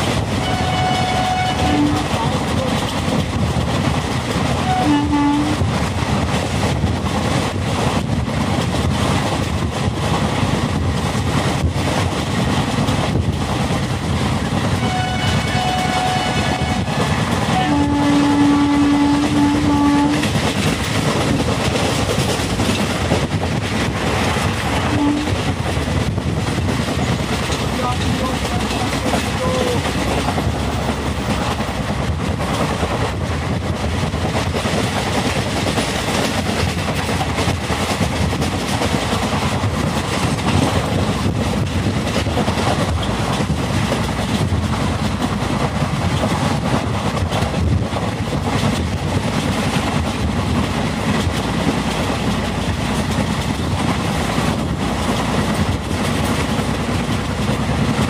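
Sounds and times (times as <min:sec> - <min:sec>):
clickety-clack of rail joints: 0:00.0 - 0:58.0
train wheels rumbling on rail: 0:00.0 - 0:58.0.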